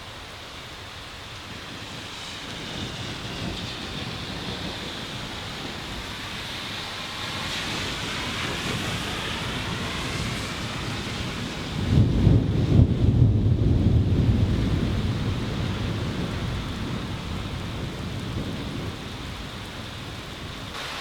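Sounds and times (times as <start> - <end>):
rain falling: 0.0 - 21.0
rolling thunder: 1.8 - 21.0.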